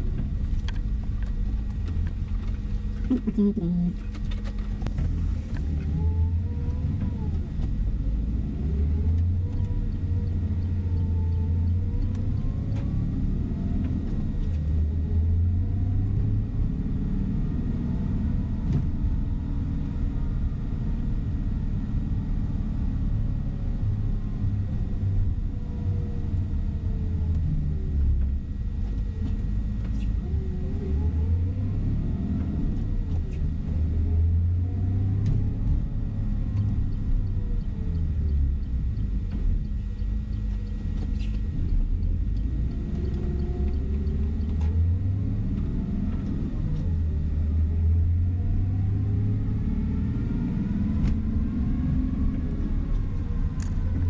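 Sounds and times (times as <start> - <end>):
bus diesel engine rumbling: 0.0 - 54.0
road noise: 0.0 - 54.0.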